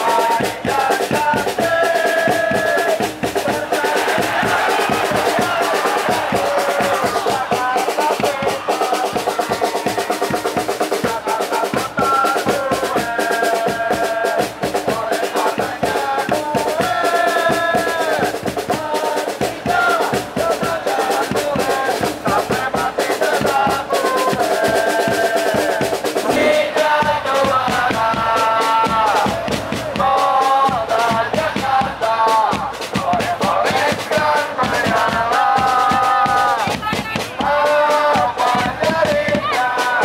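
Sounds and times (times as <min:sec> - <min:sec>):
fast driving drum beat: 0:00.0 - 0:40.0.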